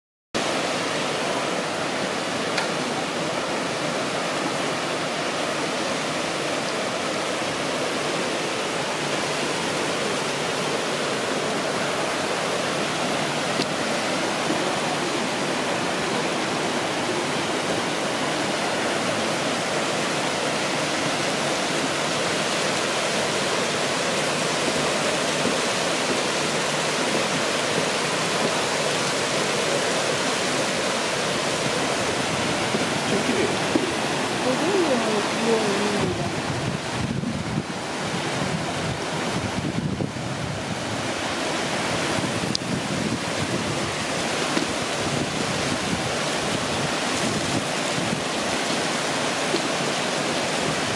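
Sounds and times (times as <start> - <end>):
water rushing into a pool: 0.4 - 50.9.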